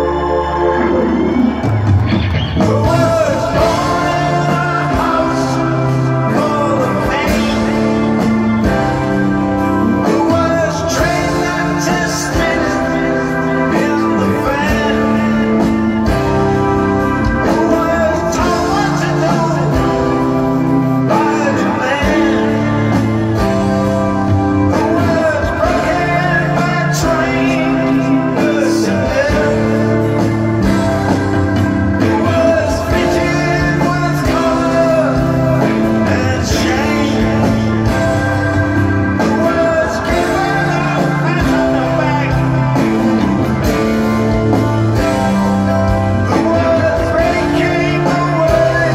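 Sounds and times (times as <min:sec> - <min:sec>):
live rock band playing: 0:00.0 - 0:48.9
sung vocals: 0:00.0 - 0:48.9.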